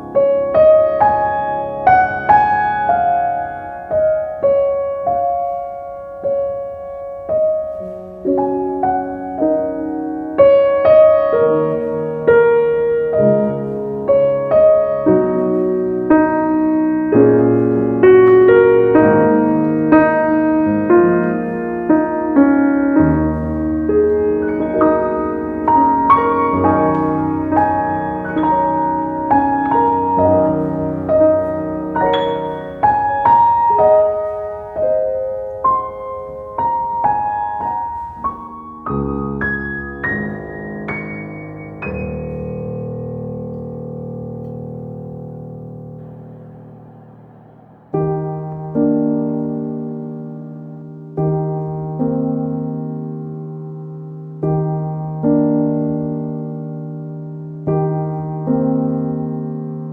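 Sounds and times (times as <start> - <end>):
slow solo piano: 0.0 - 59.9.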